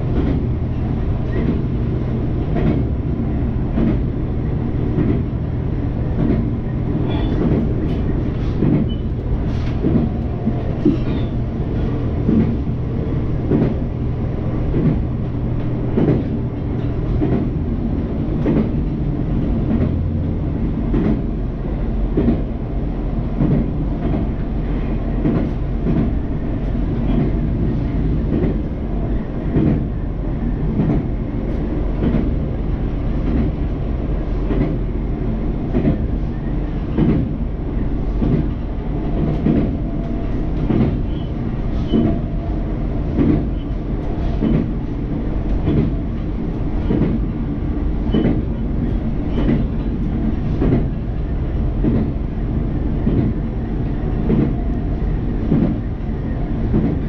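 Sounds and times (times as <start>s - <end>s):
railcar engine humming: 0.0s - 57.0s.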